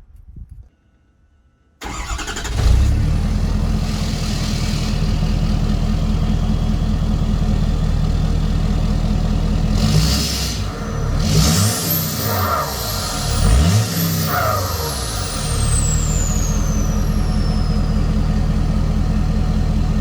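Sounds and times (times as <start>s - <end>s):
diesel truck engine idling: 1.8s - 20.0s.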